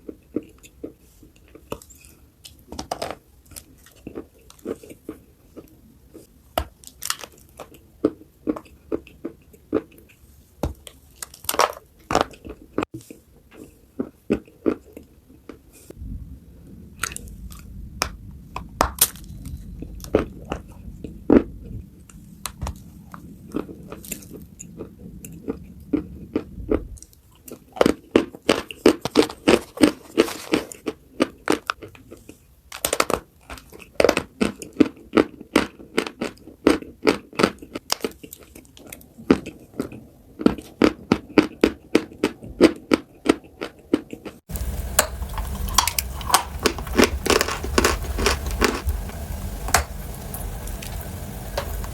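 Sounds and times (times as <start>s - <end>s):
chewing crunchy food: 0.0s - 16.0s, 17.0s - 51.9s.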